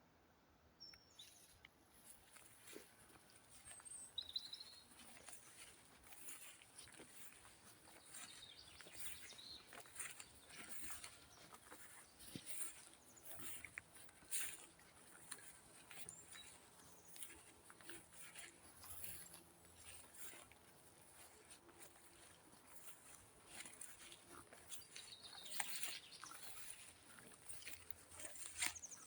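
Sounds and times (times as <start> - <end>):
quiet woodland ambience: 0.0 - 29.0
footsteps on forest floor: 1.3 - 29.0.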